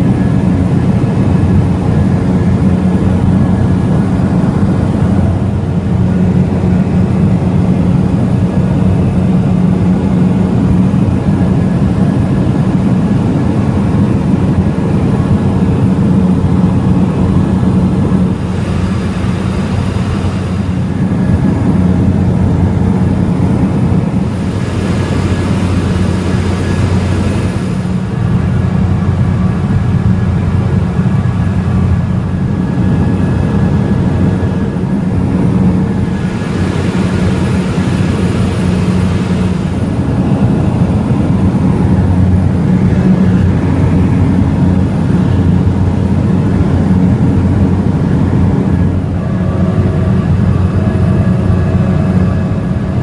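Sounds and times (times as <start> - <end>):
plane engine droning: 0.0 - 53.0.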